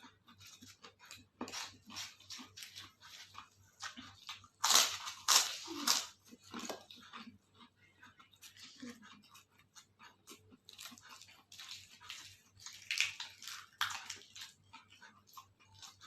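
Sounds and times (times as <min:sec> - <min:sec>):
chewing and crunching food: 0:00.0 - 0:16.0.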